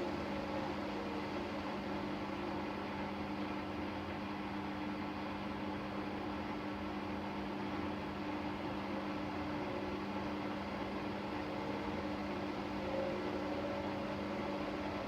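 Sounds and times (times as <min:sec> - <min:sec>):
washing machine whirring: 0:00.0 - 0:15.0.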